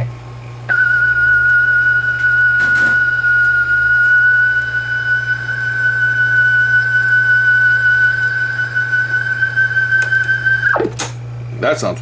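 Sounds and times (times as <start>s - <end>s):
tape test tone: 0.7s - 11.2s.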